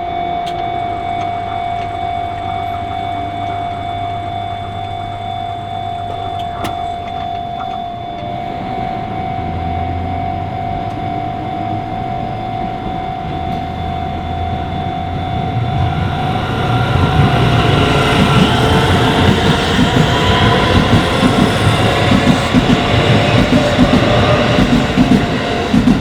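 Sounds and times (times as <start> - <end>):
electric train approaching: 0.0 - 26.0
level crossing warning bell: 0.0 - 26.0.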